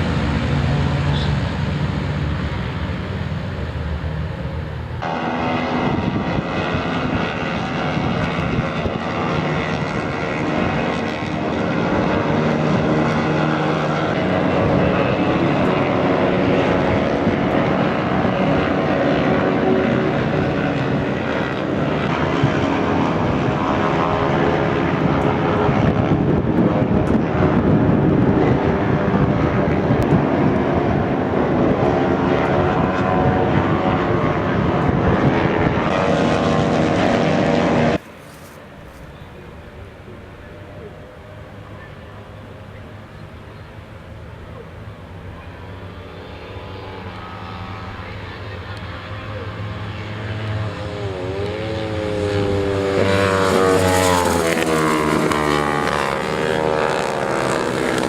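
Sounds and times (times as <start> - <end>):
racing motorcycle engines: 0.0 - 58.0.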